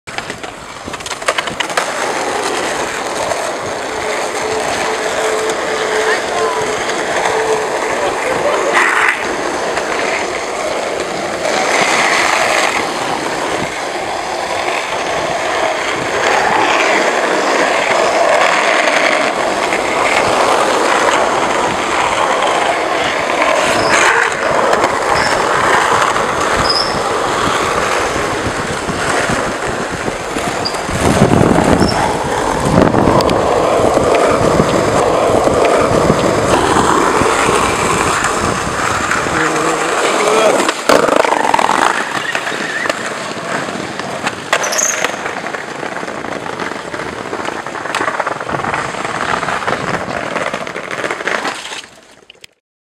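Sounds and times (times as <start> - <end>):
skate wheels rolling on asphalt: 0.0 - 52.6.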